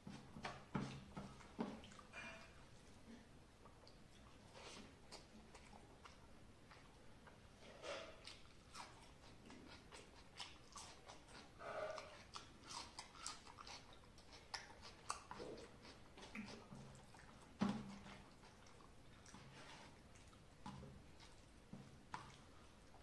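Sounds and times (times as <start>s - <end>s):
person chewing food: 0.0s - 2.9s, 3.6s - 23.0s.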